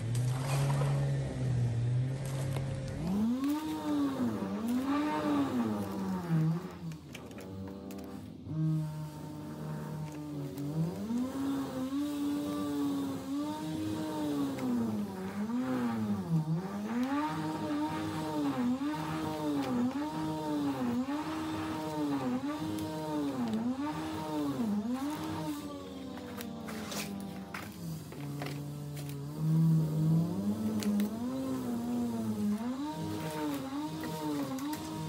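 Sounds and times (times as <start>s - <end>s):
small engine revving: 0.0s - 35.0s.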